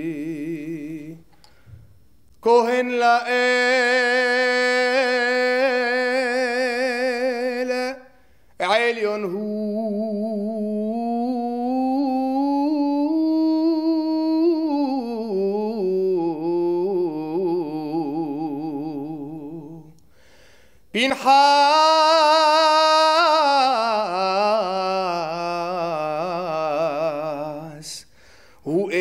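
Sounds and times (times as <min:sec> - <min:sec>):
male cantor singing solo: 0:00.0 - 0:01.3, 0:02.4 - 0:20.0, 0:20.9 - 0:29.0.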